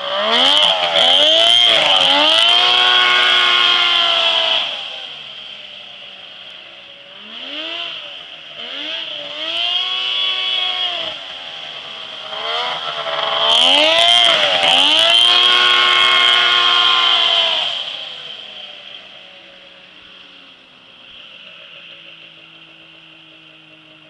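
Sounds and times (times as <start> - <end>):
buggy engine revving: 0.0 - 24.0.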